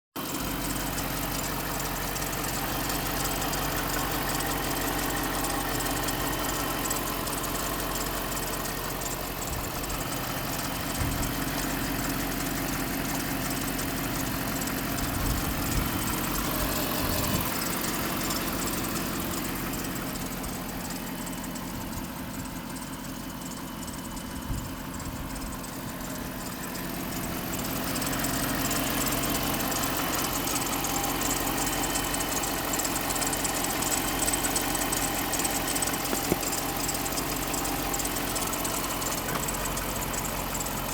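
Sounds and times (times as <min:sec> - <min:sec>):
car engine idling: 0:00.2 - 0:40.9
engine squeaking: 0:00.2 - 0:40.9.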